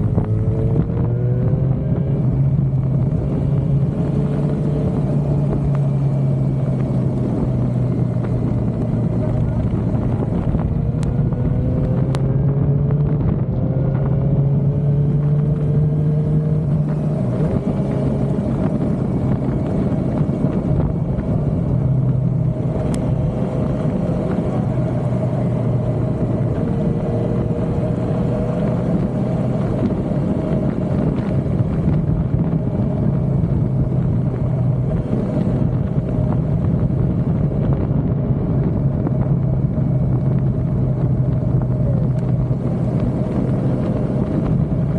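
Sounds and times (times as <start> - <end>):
motorcycle engine accelerating: 0.0 - 44.9
wind and road noise: 0.0 - 44.9.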